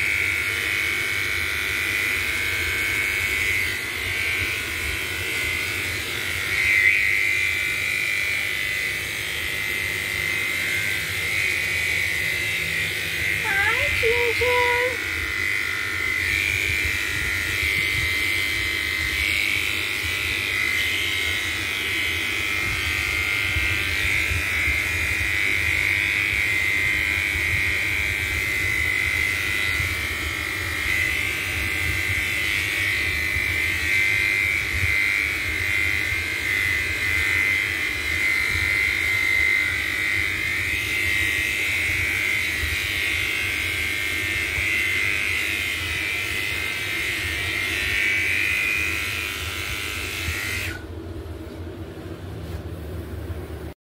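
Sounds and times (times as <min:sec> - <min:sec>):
electric hair clipper running: 0:00.0 - 0:52.6.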